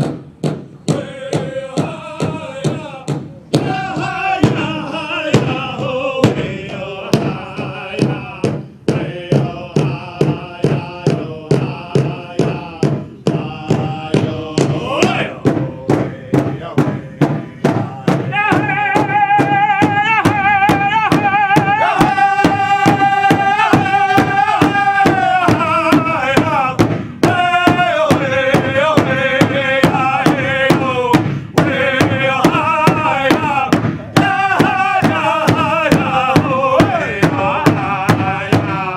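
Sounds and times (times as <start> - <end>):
drum beating steadily: 0.0 - 38.9
men singing a chant: 0.8 - 38.9.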